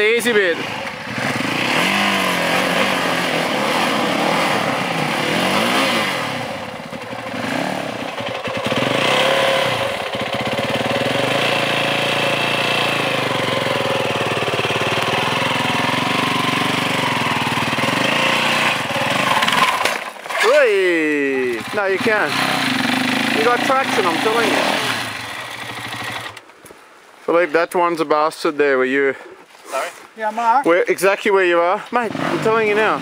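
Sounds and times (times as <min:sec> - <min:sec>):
dirt bike engines revving: 0:00.0 - 0:26.4, 0:31.0 - 0:33.0.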